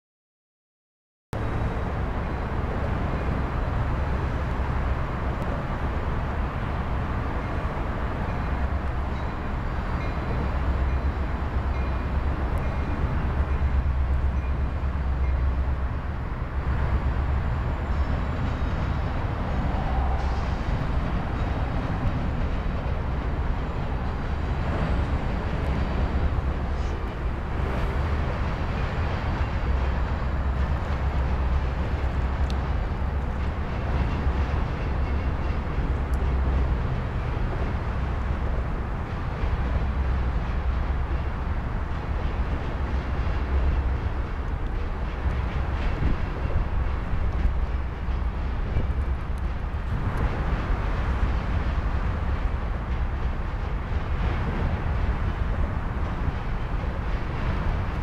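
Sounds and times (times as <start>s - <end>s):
diesel locomotives rumbling past: 1.4s - 58.0s
freight cars rolling: 1.4s - 58.0s.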